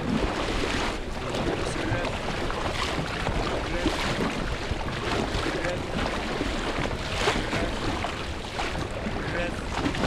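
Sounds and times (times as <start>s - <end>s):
whitewater splashing against raft: 0.0s - 10.0s.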